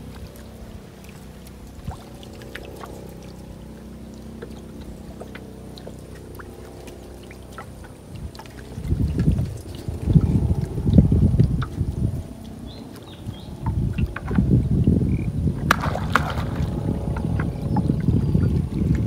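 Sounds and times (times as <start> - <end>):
paddle splashing water: 0.0 - 19.0
small drips and clicks: 0.0 - 19.0
steady low hum: 0.0 - 19.0.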